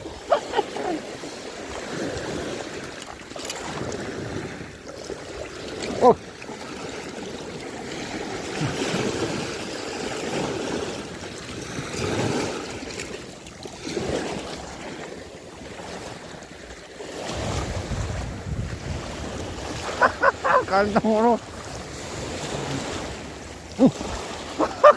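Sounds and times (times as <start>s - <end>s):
sea water surging: 0.0s - 24.9s.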